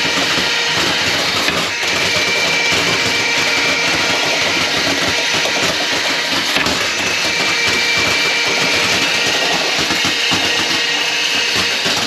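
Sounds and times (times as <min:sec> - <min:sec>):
small electric motor whirring: 0:00.0 - 0:12.0.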